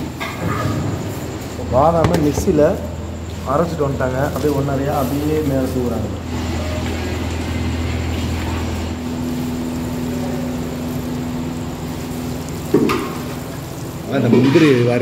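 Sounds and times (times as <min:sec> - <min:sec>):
machine drone: 0:02.3 - 0:15.0.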